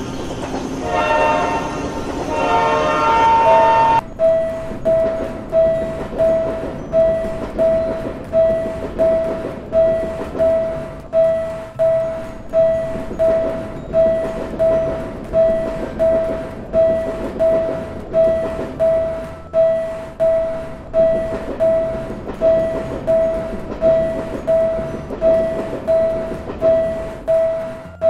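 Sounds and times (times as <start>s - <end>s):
passing train rumble and clatter: 0.0s - 28.0s
railroad crossing bell ringing: 0.0s - 28.0s.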